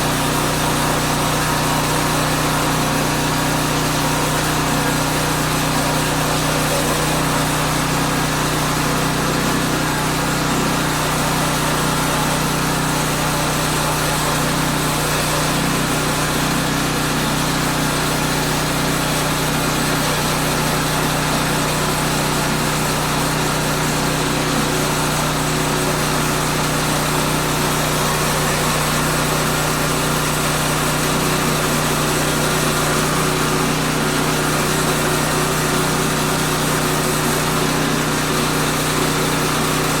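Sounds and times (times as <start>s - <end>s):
small gas engine running: 0.0s - 40.0s.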